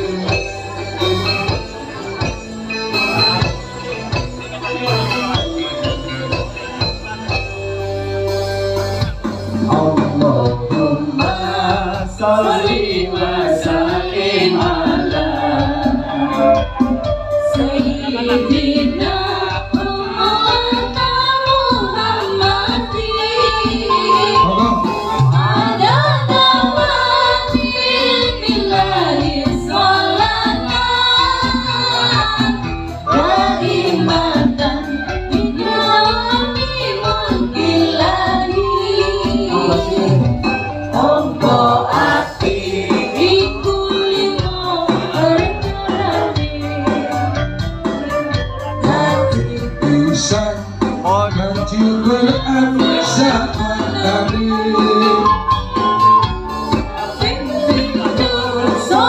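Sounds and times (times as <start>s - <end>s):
band with gamelan and keyboard: 0.0s - 59.0s
live ensemble with metallophones: 0.0s - 59.0s
person singing into microphone: 9.5s - 59.0s.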